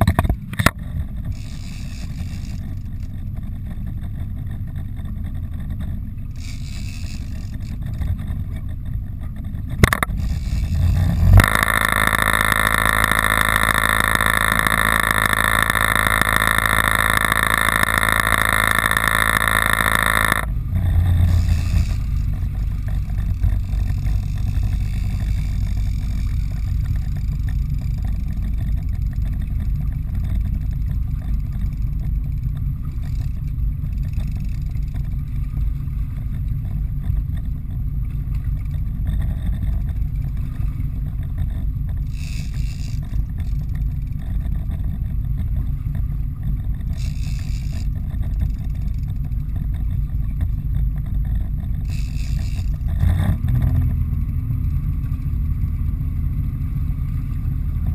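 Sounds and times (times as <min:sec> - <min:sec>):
boat engine rumbling: 0:00.0 - 0:57.9.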